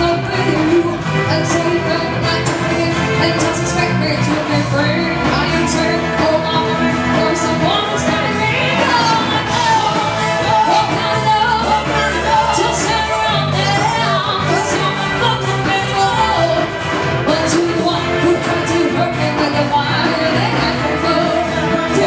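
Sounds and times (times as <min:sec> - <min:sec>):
pop-rock band playing: 0:00.0 - 0:22.0
women singing into microphones: 0:00.0 - 0:22.0.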